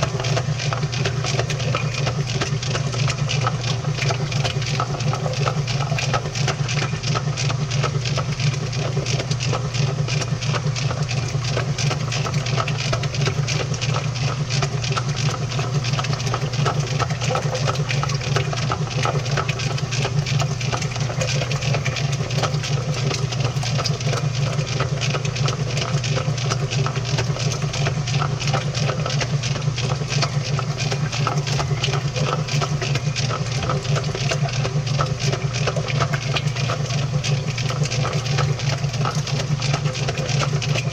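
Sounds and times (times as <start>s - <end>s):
washing machine motor hum: 0.0s - 40.9s.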